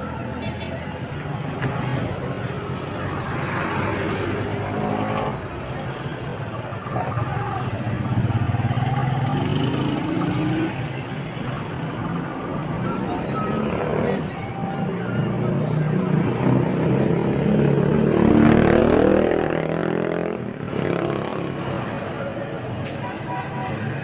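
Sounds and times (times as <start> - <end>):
street traffic engines: 0.0 - 24.0.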